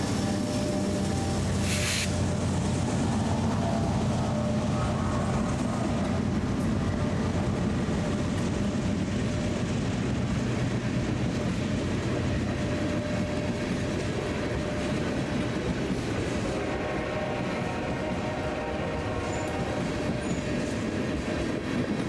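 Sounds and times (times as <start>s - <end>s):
freight train rolling by: 0.0s - 22.0s.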